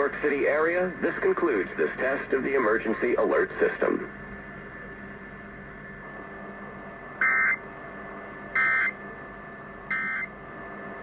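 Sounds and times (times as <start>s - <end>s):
radio hum and hiss: 0.0s - 11.0s.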